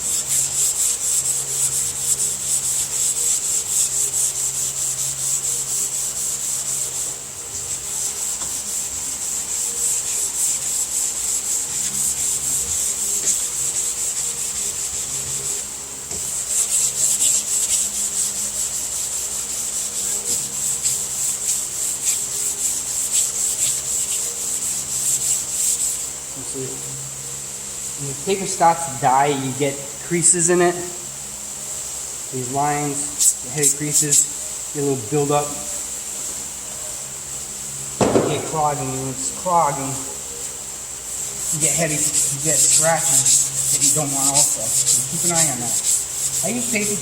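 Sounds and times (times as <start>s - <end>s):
sandpaper rasping: 0.0s - 26.2s, 32.4s - 35.8s, 38.0s - 40.3s, 41.0s - 47.0s.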